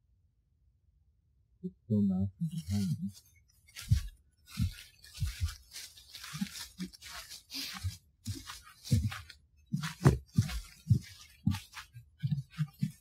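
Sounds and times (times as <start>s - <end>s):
footsteps crunching through dry leaves: 2.6s - 13.0s.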